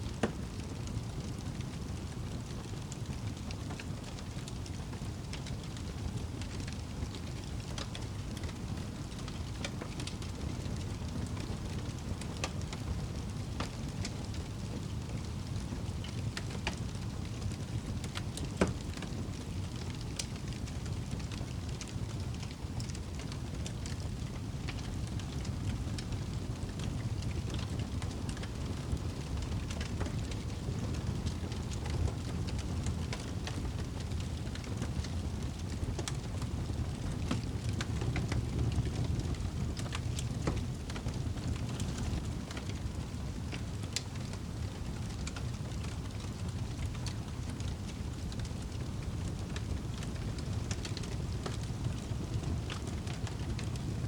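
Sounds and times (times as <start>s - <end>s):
campfire crackling: 0.2s - 54.0s.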